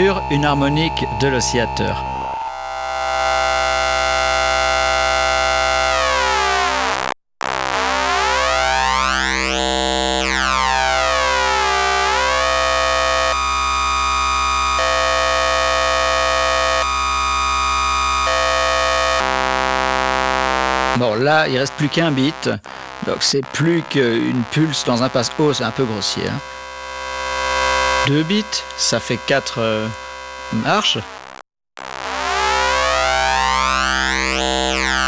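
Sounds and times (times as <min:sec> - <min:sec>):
buzzy synthesizer tone: 0:00.0 - 0:35.0.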